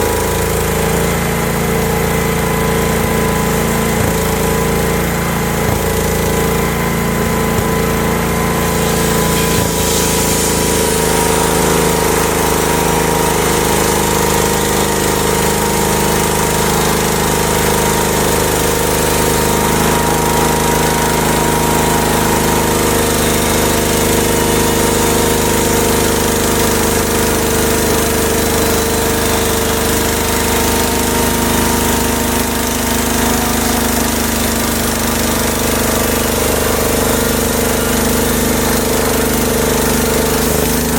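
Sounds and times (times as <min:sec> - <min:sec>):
saw cutting through wood: 0:00.0 - 0:40.9
sawmill engine running: 0:00.0 - 0:40.9.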